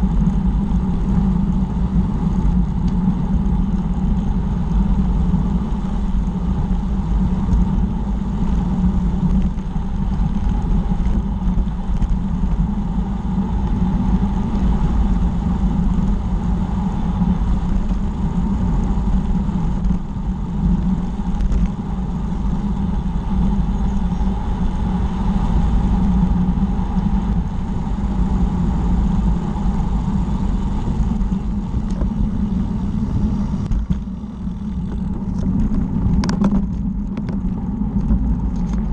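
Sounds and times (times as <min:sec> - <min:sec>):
tyres rumbling on tarmac: 0:00.0 - 0:38.9
wind rushing on microphone: 0:00.0 - 0:38.9.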